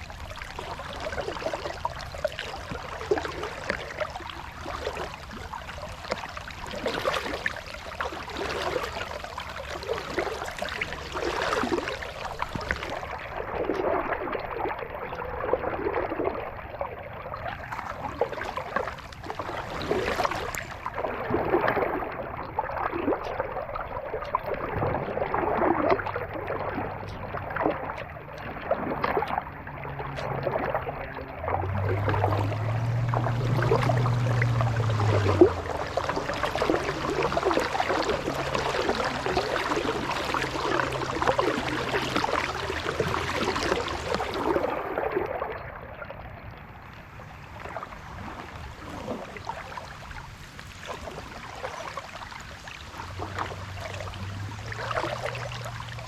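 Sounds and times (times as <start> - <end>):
kayak paddle splashing water: 0.0 - 56.0
water trickling off paddle: 0.0 - 56.0.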